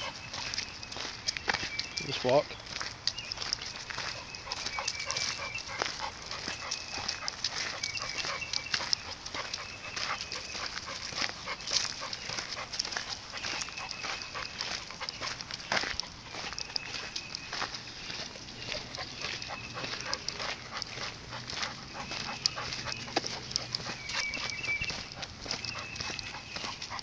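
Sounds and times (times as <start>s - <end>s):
footsteps crunching on leaves: 0.0s - 27.0s.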